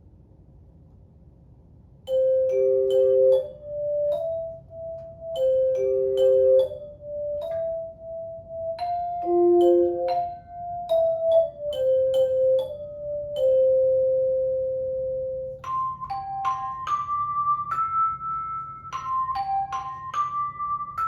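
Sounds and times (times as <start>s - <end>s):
tone chimes playing melody: 2.1s - 21.0s.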